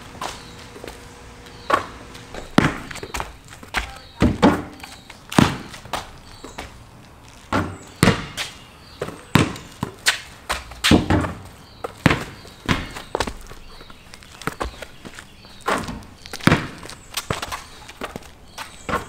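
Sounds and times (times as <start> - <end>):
basketball bouncing on concrete: 0.2 - 6.8, 7.4 - 19.0.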